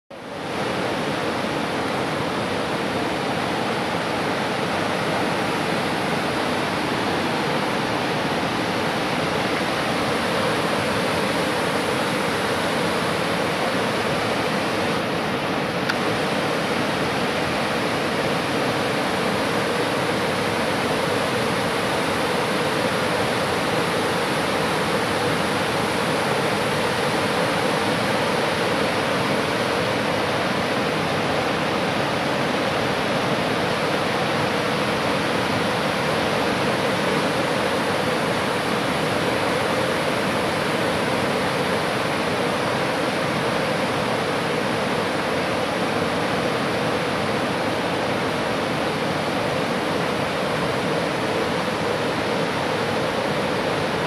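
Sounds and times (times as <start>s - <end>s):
river rushing over rapids: 0.1s - 54.0s.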